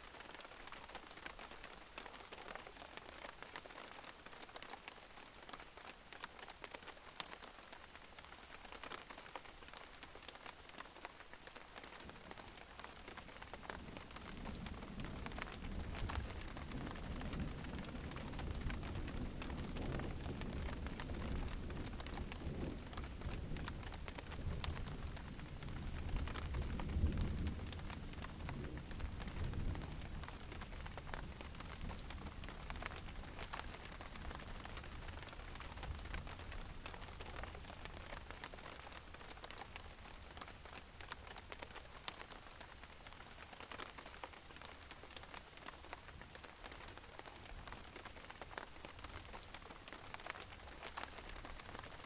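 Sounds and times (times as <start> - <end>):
rain drops pattering: 0.0 - 52.0.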